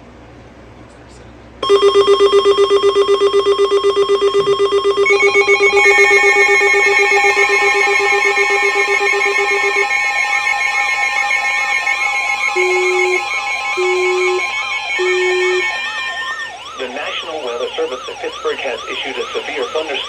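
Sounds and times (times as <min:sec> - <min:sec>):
warbling siren-like tone: 0:01.6 - 0:20.0
weather radio alarm beeps: 0:01.6 - 0:20.0.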